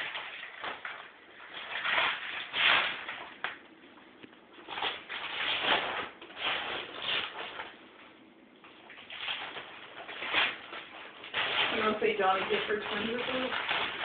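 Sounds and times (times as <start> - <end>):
paper rustling and crinkling: 0.0 - 3.6, 4.6 - 14.0.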